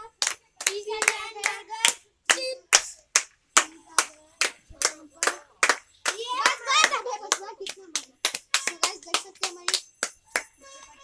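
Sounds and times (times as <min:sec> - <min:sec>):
children clapping: 0:00.1 - 0:11.0.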